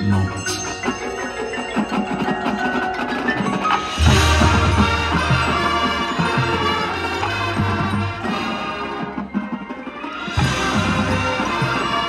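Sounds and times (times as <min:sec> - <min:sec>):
marching band playing: 0:00.0 - 0:12.0
ringing mallet percussion: 0:00.0 - 0:12.0.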